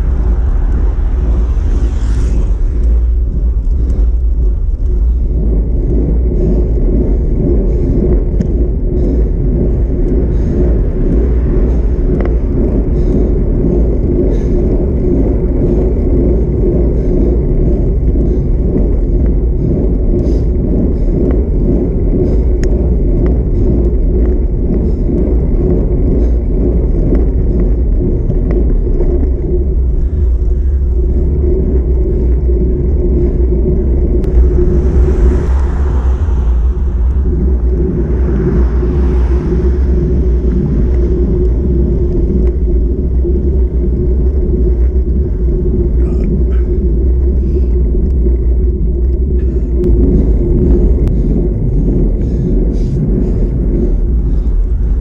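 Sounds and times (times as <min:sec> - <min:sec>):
bicycle tyre road noise: 0:00.0 - 0:55.0
wind buffeting microphone: 0:00.0 - 0:55.0.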